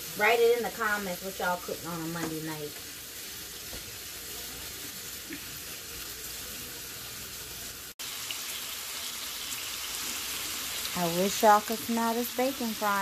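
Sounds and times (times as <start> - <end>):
bacon sizzling in a frying pan: 0.0 - 13.0.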